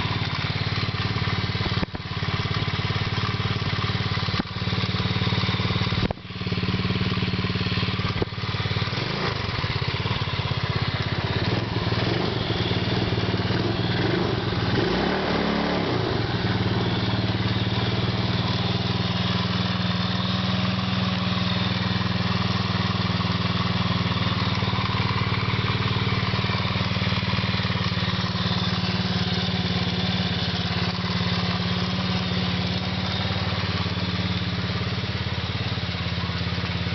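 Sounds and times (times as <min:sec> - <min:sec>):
atv engine idling: 0:00.0 - 0:36.9.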